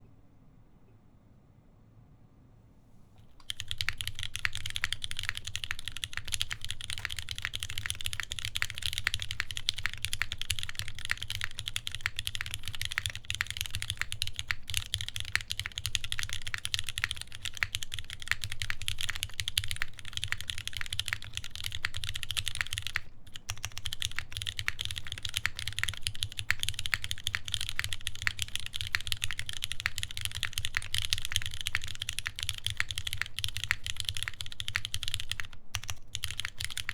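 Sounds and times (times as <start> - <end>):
fast typing on mechanical keyboard: 3.2 - 36.9.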